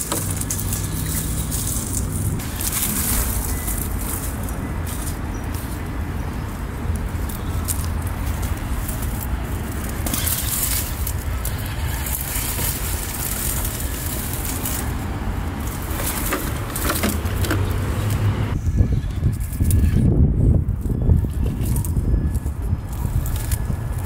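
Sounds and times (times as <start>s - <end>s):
leafy plants rustling: 0.0s - 24.0s
tires crunching over mulch: 0.0s - 24.0s.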